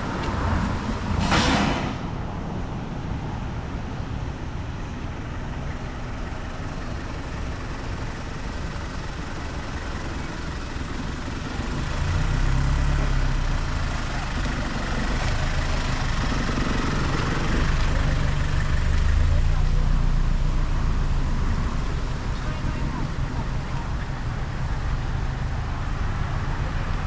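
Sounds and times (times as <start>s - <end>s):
heavy vehicle engine: 0.0s - 27.0s
street traffic: 0.0s - 27.0s.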